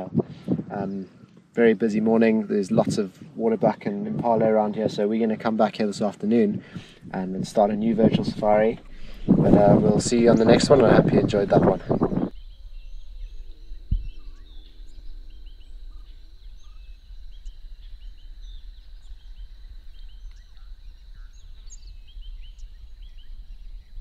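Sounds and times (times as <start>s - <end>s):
birds chirping: 0.0s - 24.0s
low wind rumble: 0.0s - 24.0s.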